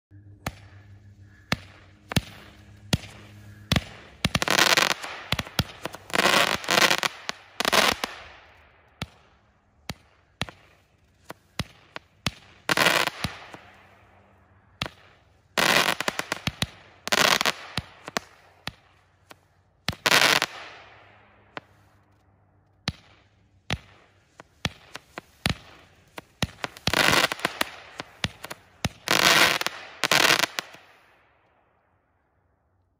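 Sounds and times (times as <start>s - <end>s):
fireworks firing and bursting: 0.3s - 22.2s, 22.8s - 31.2s.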